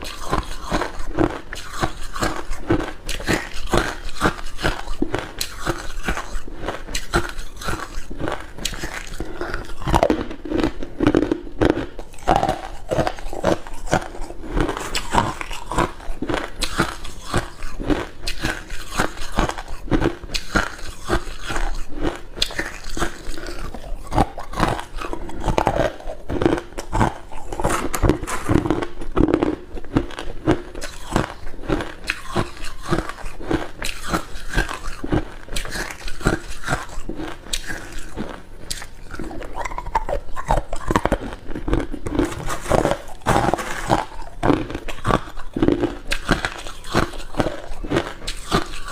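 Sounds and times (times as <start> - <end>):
ice crunching between teeth: 0.0 - 48.9.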